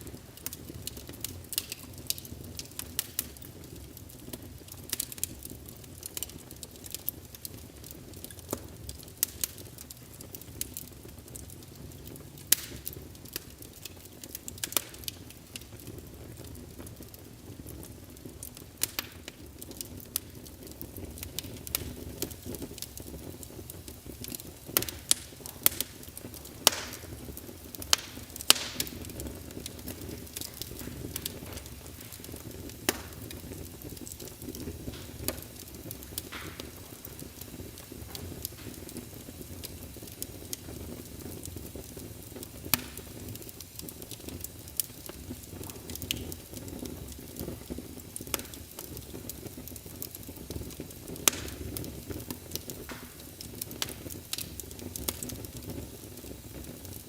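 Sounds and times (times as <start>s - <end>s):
low rush of flames: 0.0s - 57.0s
wood fire crackling and popping: 0.0s - 57.0s.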